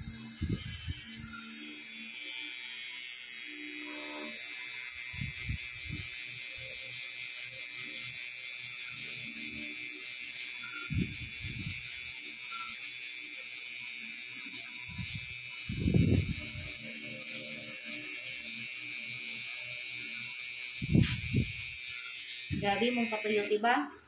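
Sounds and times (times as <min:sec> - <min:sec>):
tattoo pen buzzing: 0:00.0 - 0:24.0.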